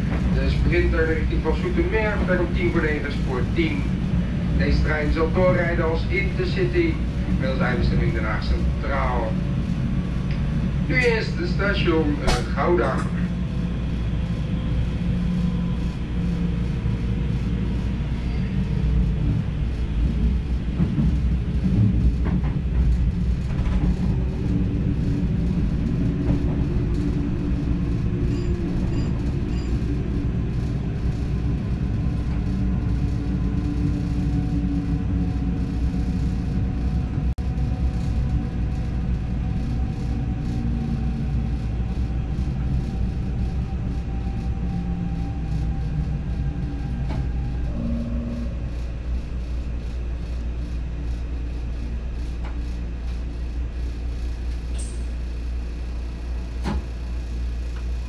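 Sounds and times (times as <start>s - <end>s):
electric train rumbling on rails: 0.0s - 58.0s.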